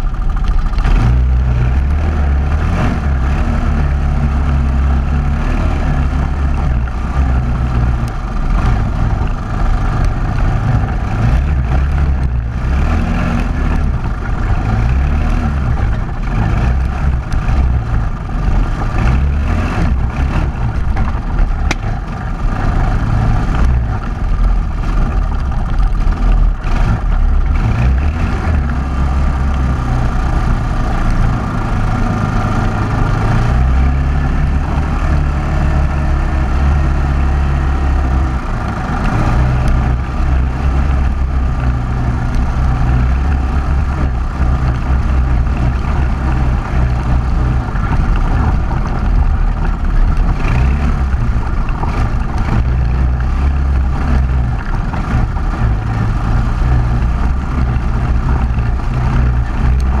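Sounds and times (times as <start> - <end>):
atv engine running: 0.0 - 60.0.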